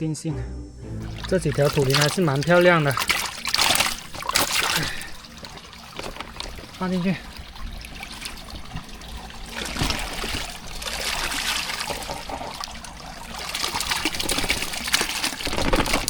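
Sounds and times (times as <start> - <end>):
water trickling and splashing: 1.0 - 16.0.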